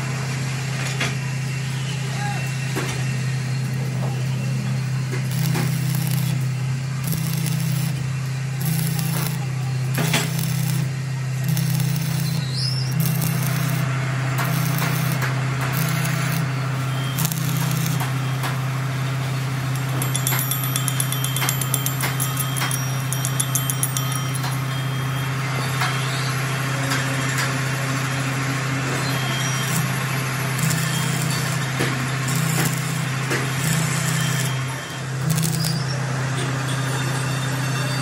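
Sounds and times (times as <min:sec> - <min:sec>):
low machine hum: 0:00.0 - 0:38.0
welding arc crackling: 0:04.5 - 0:37.3.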